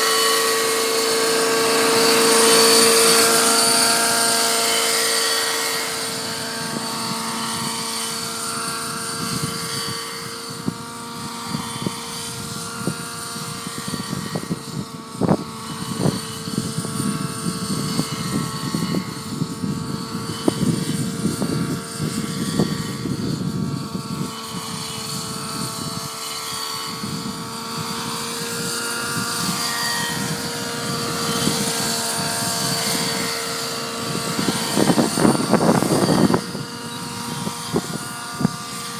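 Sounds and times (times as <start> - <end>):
model helicopter engine whine: 0.0 - 38.9
wind buffeting microphone: 0.2 - 38.9.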